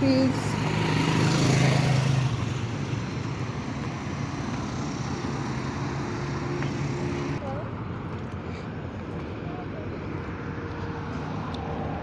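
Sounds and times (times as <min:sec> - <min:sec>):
passing motor vehicle: 0:00.0 - 0:12.0.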